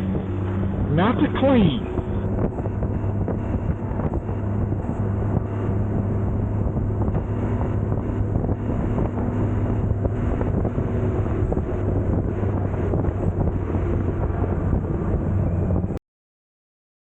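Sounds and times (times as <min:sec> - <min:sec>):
motorcycle engine drone: 0:00.0 - 0:16.0
wind rushing over microphone: 0:00.0 - 0:16.0.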